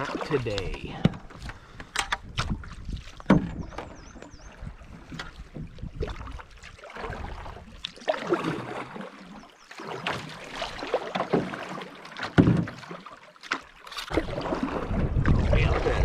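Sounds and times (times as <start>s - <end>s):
paddle splashing water: 0.0s - 16.0s.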